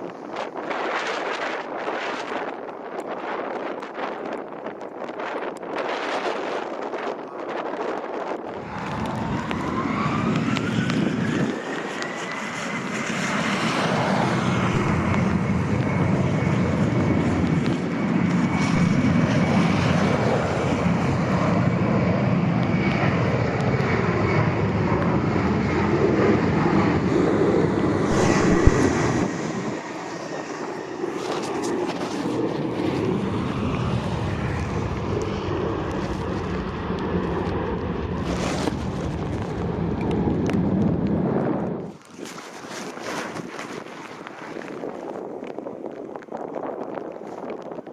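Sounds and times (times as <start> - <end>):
jet engine whine: 0.0 - 46.3
wind buffeting microphone: 0.0 - 47.9.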